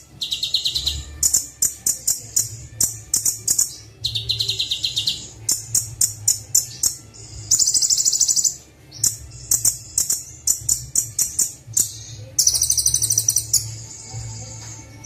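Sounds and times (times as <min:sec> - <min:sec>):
sunbird sharp high chirps: 0:00.0 - 0:13.7
bird trills: 0:00.0 - 0:13.8.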